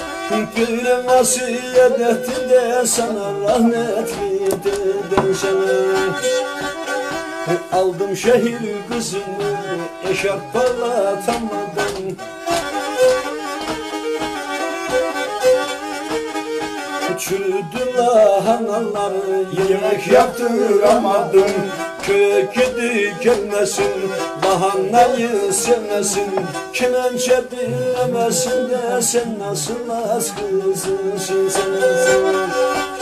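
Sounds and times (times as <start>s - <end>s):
bowed fiddle folk tune: 0.0s - 33.0s.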